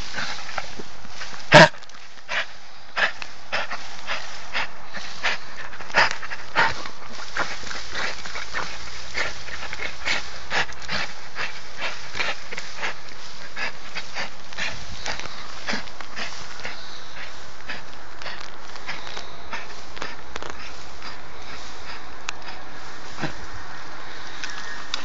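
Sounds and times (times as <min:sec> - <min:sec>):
dog panting: 0:01.6 - 0:23.4.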